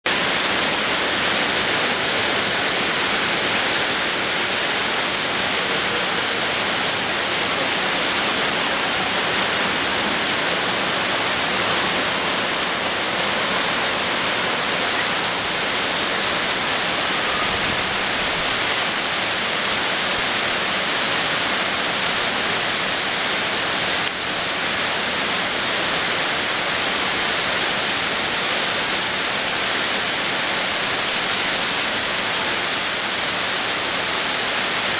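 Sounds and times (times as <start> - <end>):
heavy rain downpour: 0.0 - 34.9.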